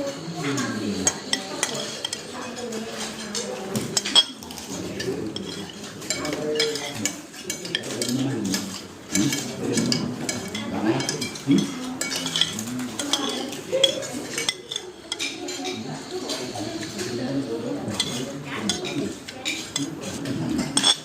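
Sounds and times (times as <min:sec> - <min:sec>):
cutlery clinking on plates: 0:00.0 - 0:21.0
quiet background conversation: 0:00.0 - 0:21.0.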